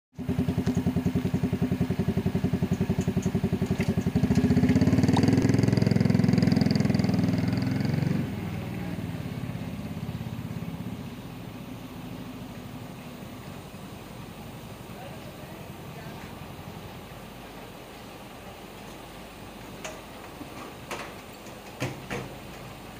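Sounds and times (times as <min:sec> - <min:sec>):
diesel truck engine: 0:00.1 - 0:22.9
faint hydraulic whine: 0:00.2 - 0:22.9.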